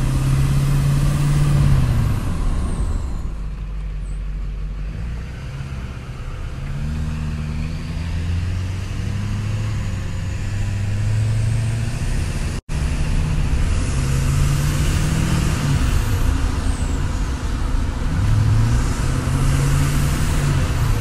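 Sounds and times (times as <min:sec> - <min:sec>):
deep diesel exhaust drone: 0:00.0 - 0:21.0.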